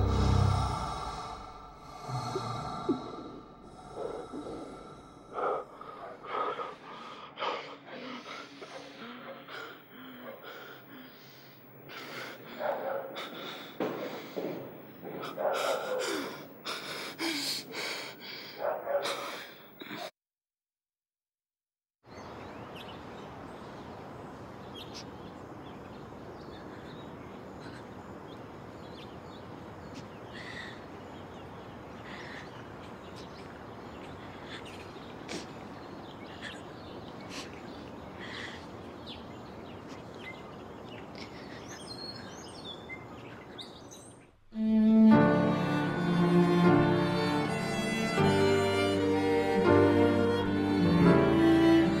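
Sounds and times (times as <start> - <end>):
outdoor ambience: 0.0 - 20.1, 22.1 - 52.0.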